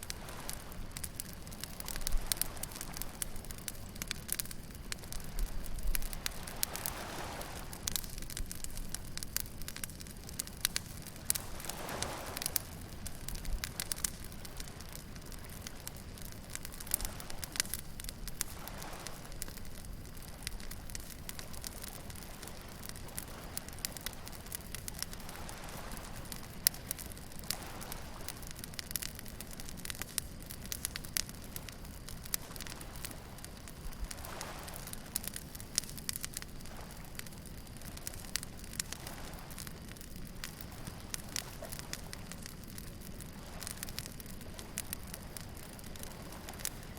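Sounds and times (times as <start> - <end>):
waves washing in: 0.0 - 42.5
bonfire crackling and popping: 0.0 - 46.9.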